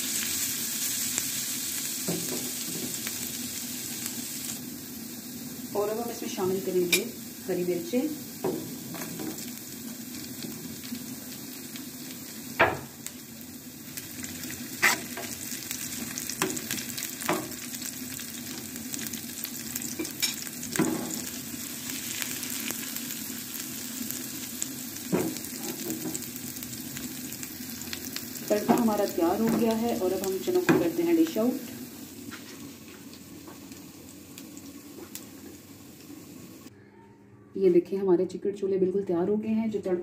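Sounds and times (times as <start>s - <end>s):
food sizzling in hot oil: 0.0s - 36.7s.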